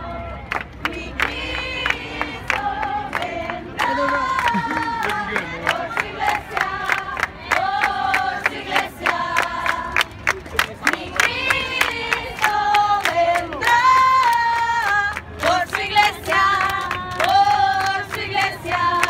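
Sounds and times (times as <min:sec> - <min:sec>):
crowd singing: 0:00.0 - 0:19.0
hand-claps: 0:00.5 - 0:19.0.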